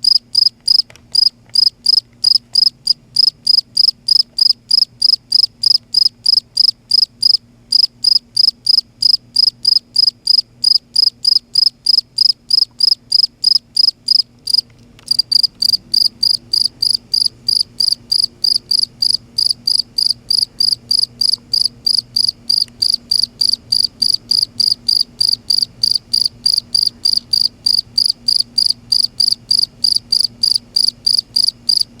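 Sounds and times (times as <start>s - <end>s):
cricket chirping: 0.0s - 31.9s.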